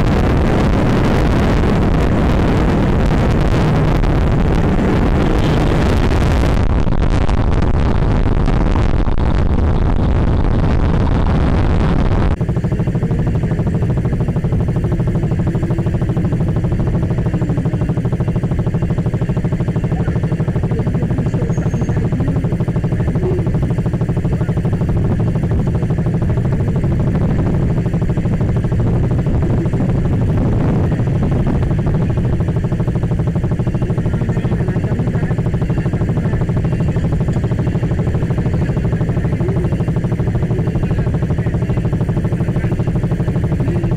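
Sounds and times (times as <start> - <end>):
wind and road noise: 0.0 - 41.4
motorcycle engine idling: 0.0 - 43.9.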